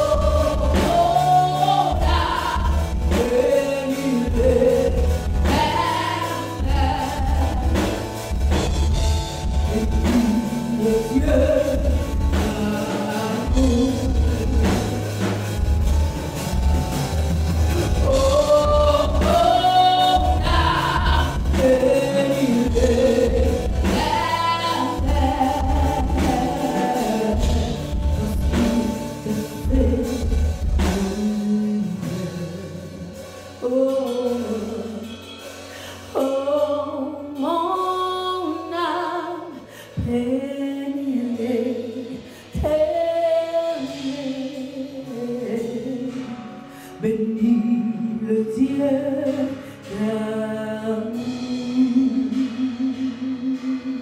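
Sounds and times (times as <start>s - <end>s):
woman singing gospel song: 0.0s - 15.4s, 17.8s - 54.0s
soft instrumental backing: 0.0s - 54.0s.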